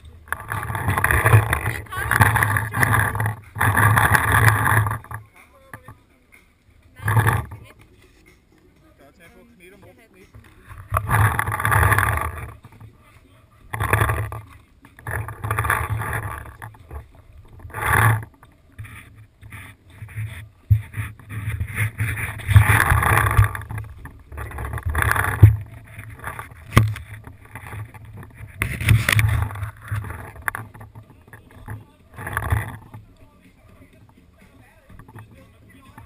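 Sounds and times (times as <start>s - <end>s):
rubbing and rustling on microphone: 0.0s - 36.0s.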